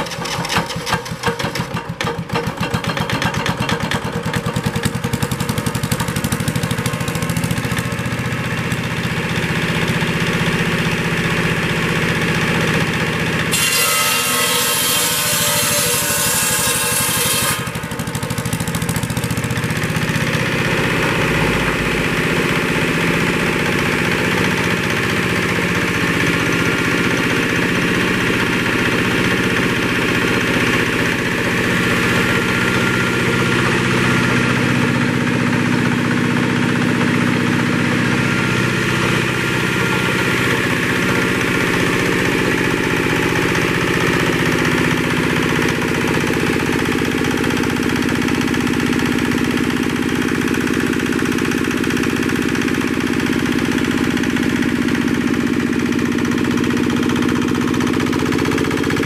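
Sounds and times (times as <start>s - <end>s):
small diesel engine running: 0.0s - 59.0s.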